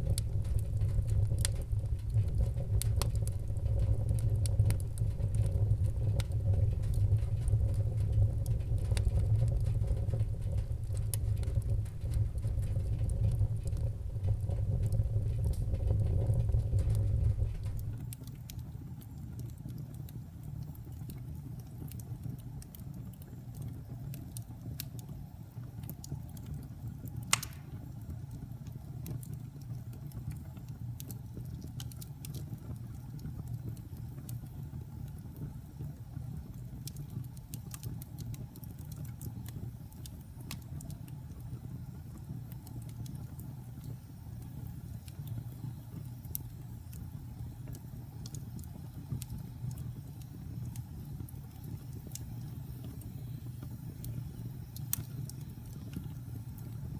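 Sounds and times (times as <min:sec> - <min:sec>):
fire crackling and popping: 0:00.0 - 0:56.9
fire rumbling in fireplace: 0:00.0 - 0:56.9.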